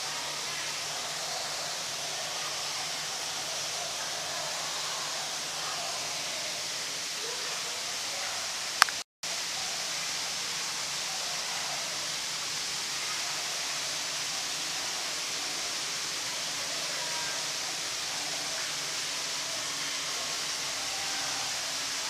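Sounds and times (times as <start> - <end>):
steady high hiss: 0.0 - 22.0.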